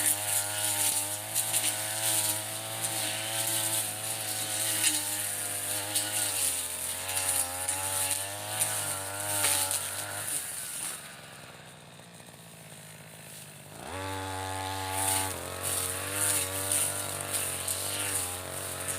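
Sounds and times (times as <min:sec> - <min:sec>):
brush cutter engine cutting: 0:00.0 - 0:18.9.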